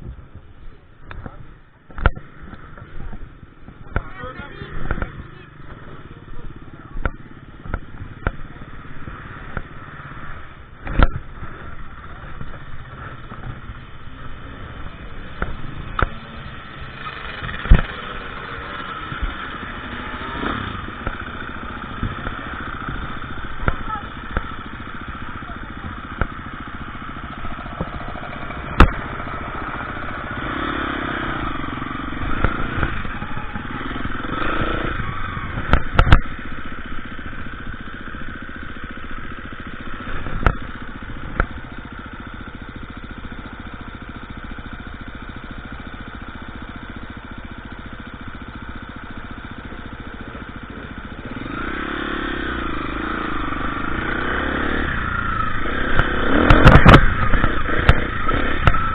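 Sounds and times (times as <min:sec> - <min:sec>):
dirt bike engine revving: 0:02.0 - 0:58.9.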